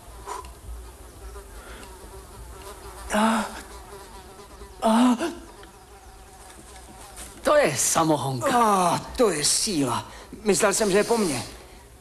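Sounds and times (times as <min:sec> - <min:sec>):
faint steady buzzing: 0:00.0 - 0:12.0.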